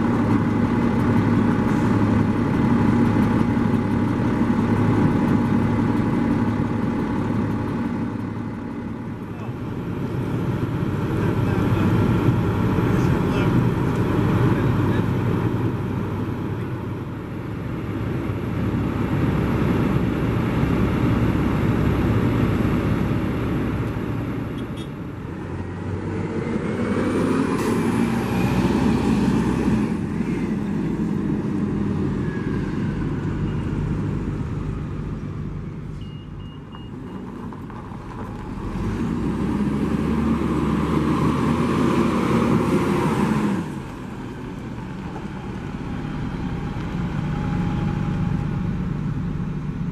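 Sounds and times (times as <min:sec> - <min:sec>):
bus engines pulling away: 0:00.0 - 0:49.9.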